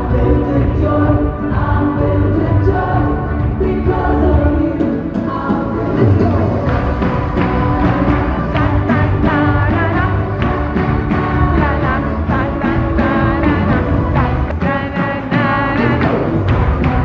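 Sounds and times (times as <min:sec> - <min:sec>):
gospel band playing: 0:00.0 - 0:17.0
voices singing together: 0:00.0 - 0:17.0.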